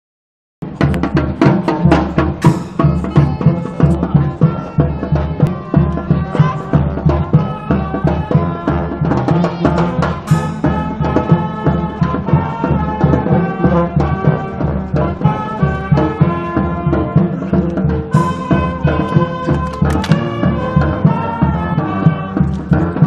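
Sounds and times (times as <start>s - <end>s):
brass band music with drums: 0.6s - 23.0s.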